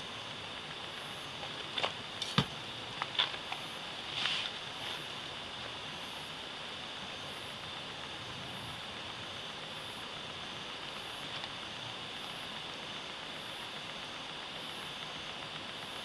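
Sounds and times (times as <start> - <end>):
campfire crackling: 0.0 - 16.0
constant high hiss: 0.0 - 16.0.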